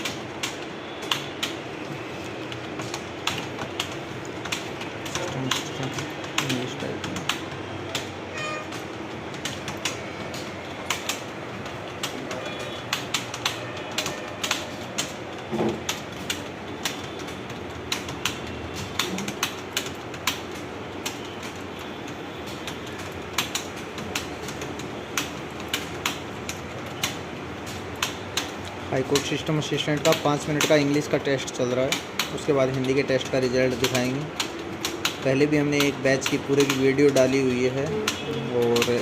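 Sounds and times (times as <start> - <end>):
keyboard typing: 0.0 - 39.0.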